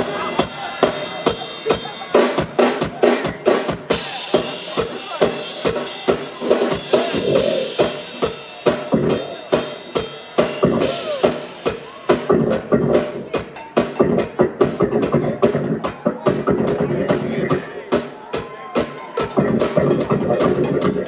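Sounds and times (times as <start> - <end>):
drum kit playing a beat: 0.0 - 21.0.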